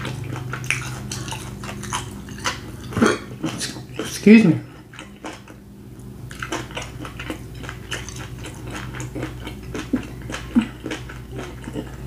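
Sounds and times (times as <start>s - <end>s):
close chewing mouth clicks: 0.0s - 4.2s, 6.3s - 12.0s.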